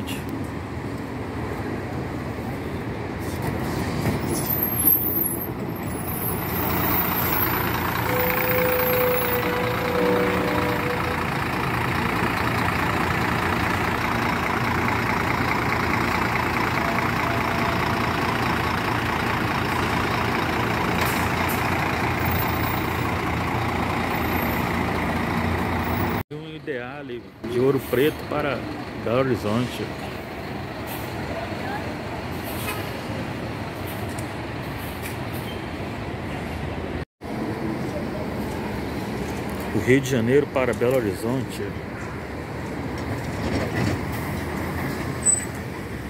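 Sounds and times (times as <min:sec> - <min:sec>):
bus diesel engine: 0:00.0 - 0:46.0.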